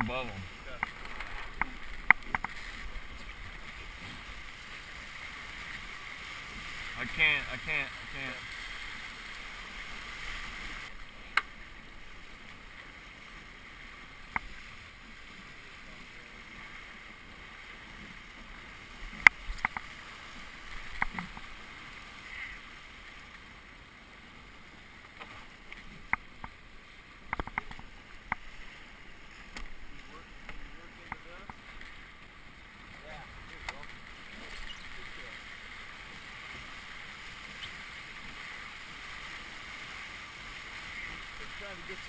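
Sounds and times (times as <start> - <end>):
water rushing along boat hull: 0.0 - 42.0.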